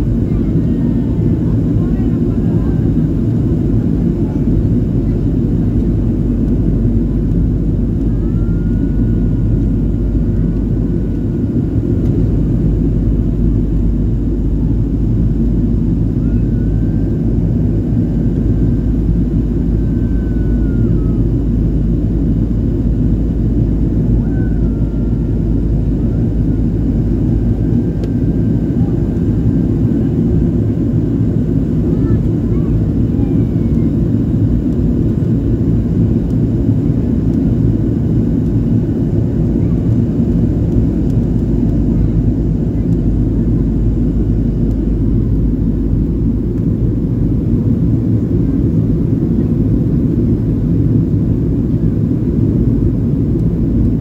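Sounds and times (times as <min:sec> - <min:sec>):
jet engine rumble: 0:00.0 - 0:54.0.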